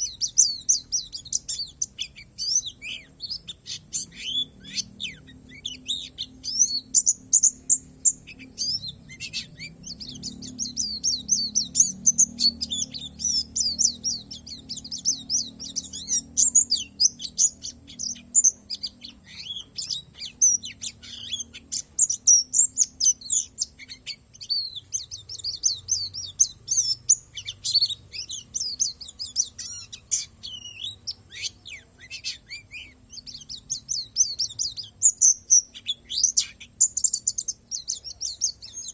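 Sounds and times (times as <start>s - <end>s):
bird twittering song: 0.0s - 38.9s
faint low hum: 0.0s - 38.9s.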